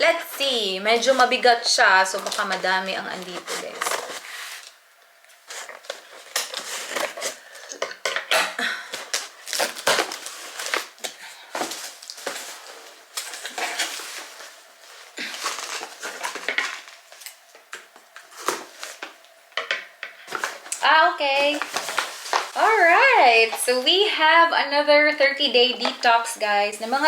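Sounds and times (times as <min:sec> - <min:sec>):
packaging rustling and crinkling: 0:00.2 - 0:19.4, 0:20.1 - 0:24.1, 0:25.4 - 0:27.0.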